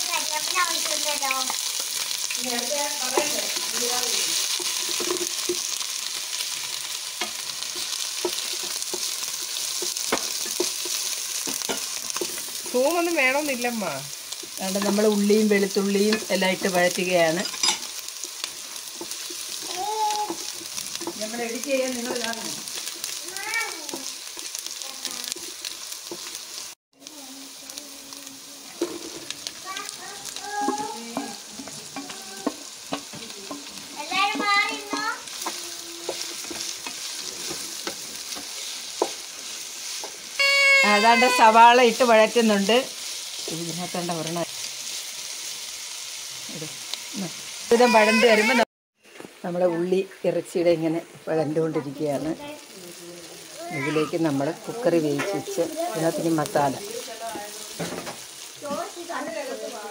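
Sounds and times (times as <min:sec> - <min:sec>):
onion sizzling in hot oil: 0:00.0 - 0:59.9.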